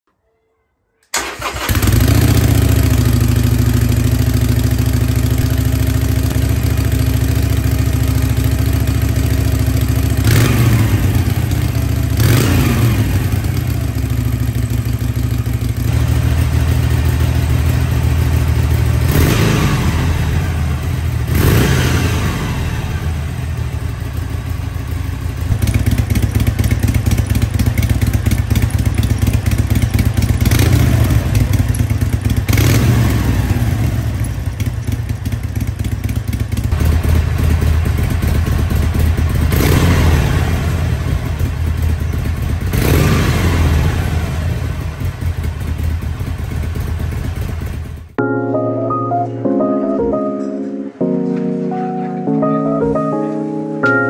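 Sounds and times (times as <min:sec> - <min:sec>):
motorcycle engine idling: 0:01.2 - 0:21.4, 0:22.2 - 0:48.2.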